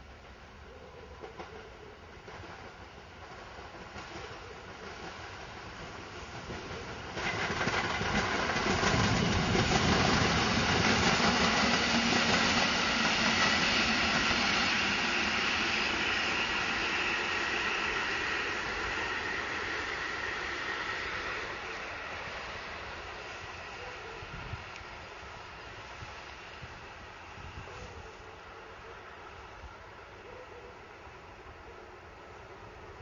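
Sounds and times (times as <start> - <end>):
train passing on rails: 0.0 - 33.0.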